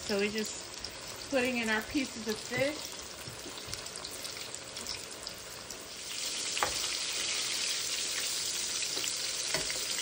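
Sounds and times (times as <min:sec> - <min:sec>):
fish frying in hot oil: 0:00.0 - 0:10.0.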